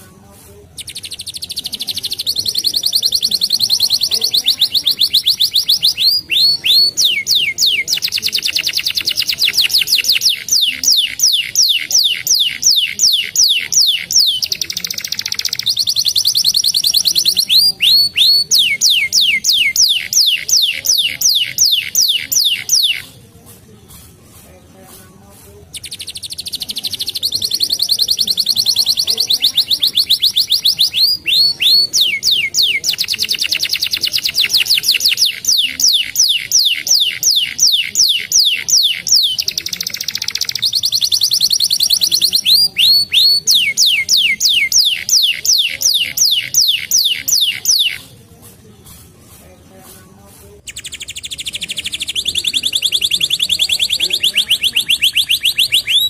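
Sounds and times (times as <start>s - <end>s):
canary singing trills: 0.0s - 23.4s, 25.4s - 56.0s.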